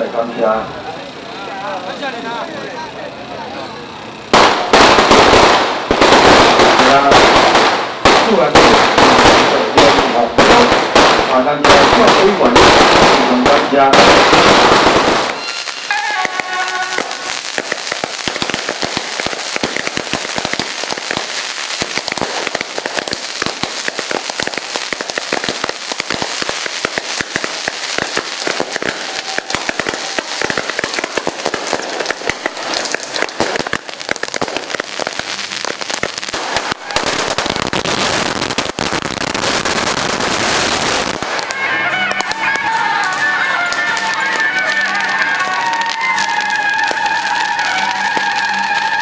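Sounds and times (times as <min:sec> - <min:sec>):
firecrackers crackling: 0:00.0 - 0:49.0.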